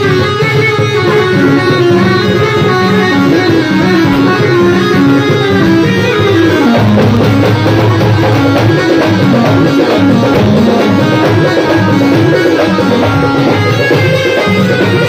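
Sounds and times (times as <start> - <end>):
drums: 0.0 - 15.0
instrumental melody: 0.0 - 15.0.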